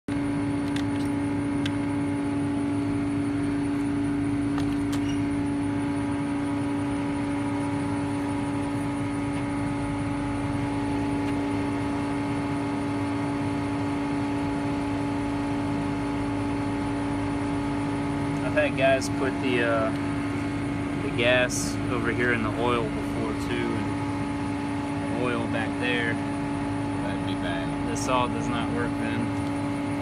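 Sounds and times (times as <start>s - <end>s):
steady machine drone: 0.1s - 30.0s.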